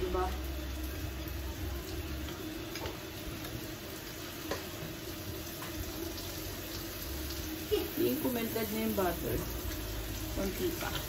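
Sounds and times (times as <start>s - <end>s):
butter sizzling in frying pan: 0.0s - 11.0s.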